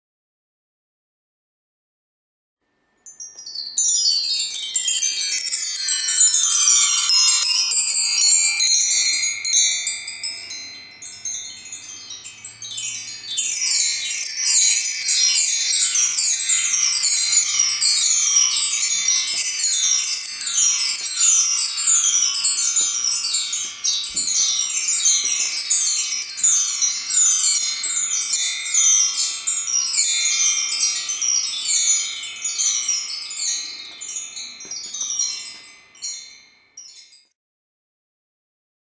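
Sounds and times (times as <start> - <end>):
metal wind chime ringing: 2.9 - 37.4.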